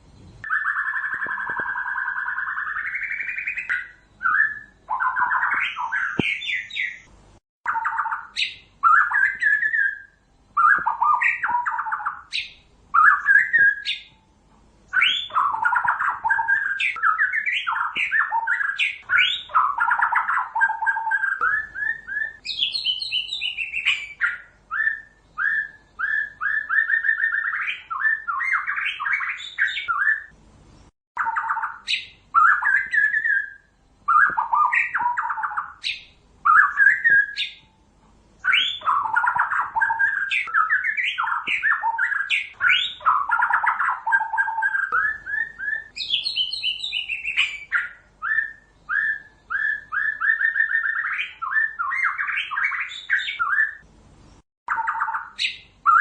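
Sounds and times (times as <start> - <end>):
bird singing whistled song: 0.1 - 7.1, 7.7 - 14.3, 14.9 - 30.4, 31.2 - 37.8, 38.4 - 53.9, 54.7 - 56.0.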